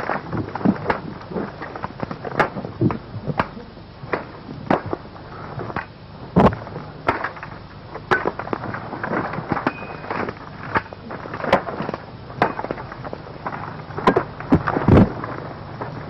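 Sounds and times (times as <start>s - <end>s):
branches cracking and snapping: 0.0s - 16.0s.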